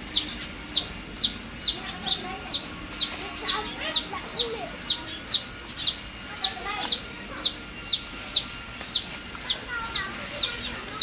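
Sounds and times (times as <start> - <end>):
bird calling: 0.0 - 11.0
fainter lower bird calls: 0.0 - 11.0.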